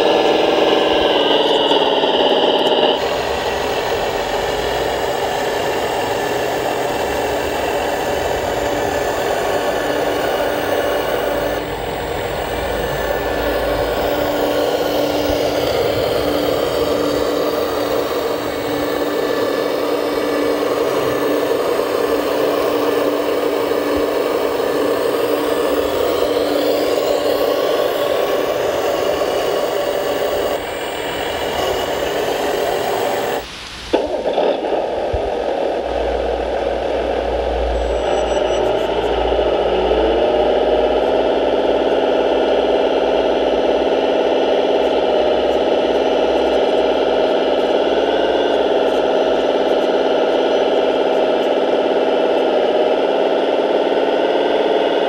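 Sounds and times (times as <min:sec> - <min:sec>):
model hydraulic pump whine: 0:00.0 - 0:55.0.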